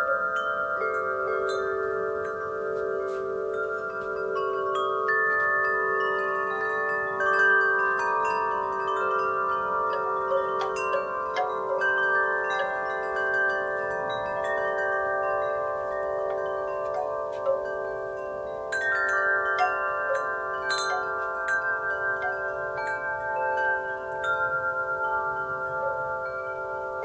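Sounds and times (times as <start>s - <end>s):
wind chimes ringing: 0.0s - 27.0s.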